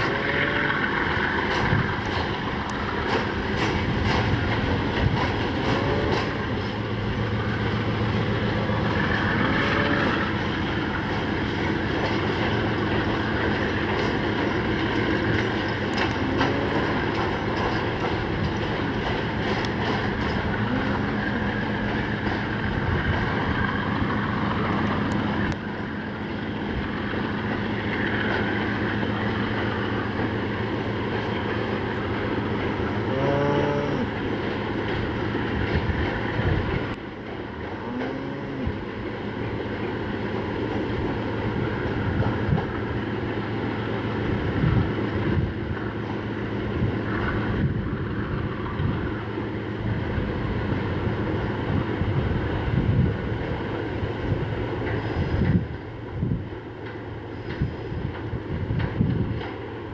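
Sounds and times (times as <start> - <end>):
diesel locomotive engine running: 0.0 - 59.9
wind buffeting microphone: 0.8 - 32.7, 34.8 - 37.7, 40.8 - 43.4, 44.0 - 59.9.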